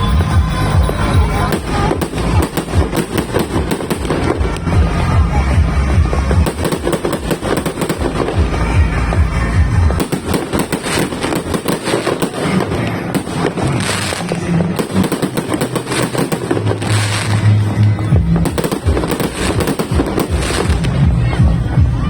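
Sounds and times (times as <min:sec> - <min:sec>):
fireworks popping rapidly: 0:00.0 - 0:21.3
music with low tones: 0:00.0 - 0:22.0.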